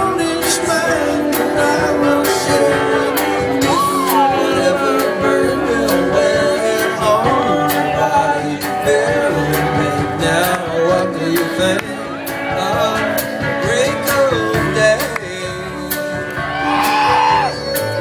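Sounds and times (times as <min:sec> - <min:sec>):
live band playing slow song: 0:00.0 - 0:18.0.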